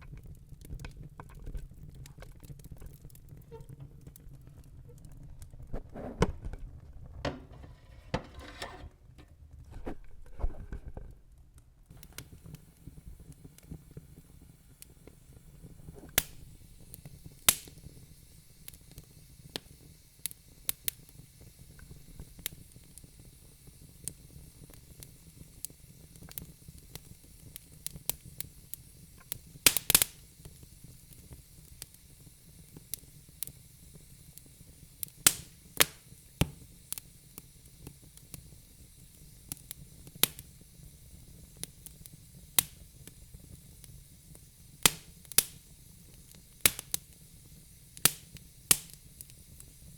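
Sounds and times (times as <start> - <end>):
fire crackling and popping: 0.0 - 8.0, 9.1 - 49.9
low rumble of flames: 0.0 - 8.4, 9.6 - 49.9.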